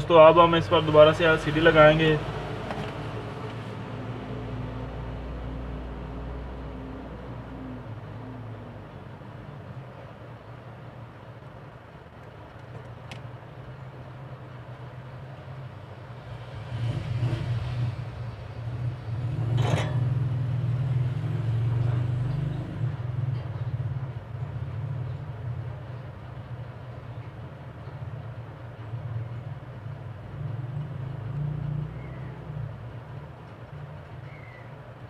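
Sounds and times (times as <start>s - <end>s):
low engine rumble: 0.0s - 35.0s.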